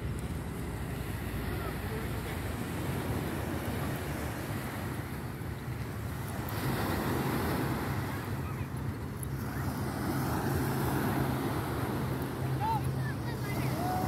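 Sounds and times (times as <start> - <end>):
low engine hum: 0.0 - 14.0
surf washing on shore: 0.0 - 14.0.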